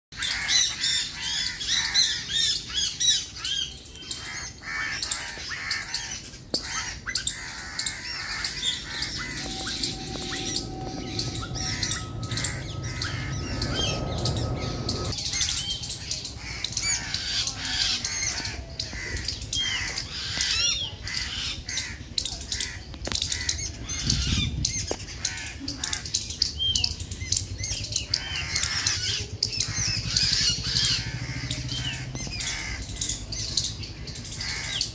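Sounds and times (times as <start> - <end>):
birds chirping and squawking: 0.1 - 34.9
low rumble with held tone: 0.3 - 34.9.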